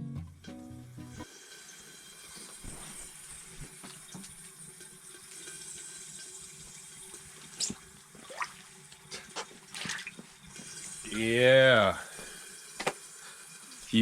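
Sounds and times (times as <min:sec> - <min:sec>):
water trickling and sloshing: 0:01.8 - 0:14.0.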